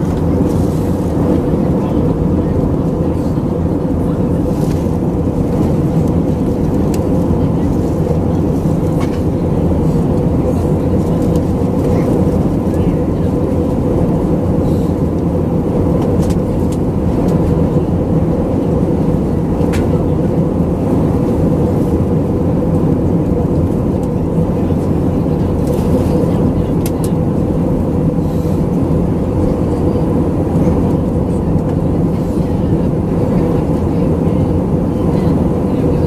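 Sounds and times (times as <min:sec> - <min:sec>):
aircraft cabin engine drone: 0:00.0 - 0:36.0
airflow over fuselage: 0:00.0 - 0:36.0
steady hum: 0:00.0 - 0:36.0.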